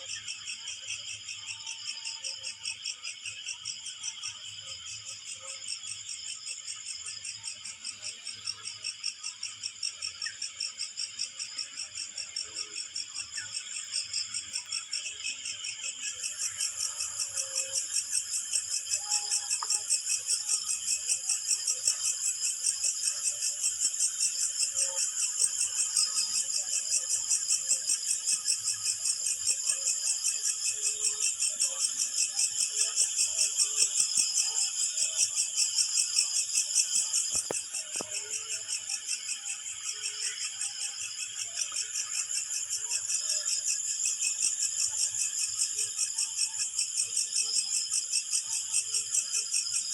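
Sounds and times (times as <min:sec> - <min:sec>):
crickets chirping: 0:00.0 - 0:49.9
higher-pitched insect chorus: 0:00.0 - 0:49.9.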